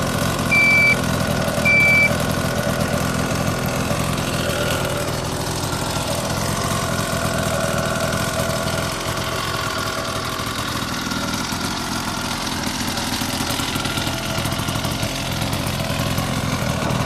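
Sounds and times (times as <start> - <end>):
small petrol engine idling: 0.0 - 17.0.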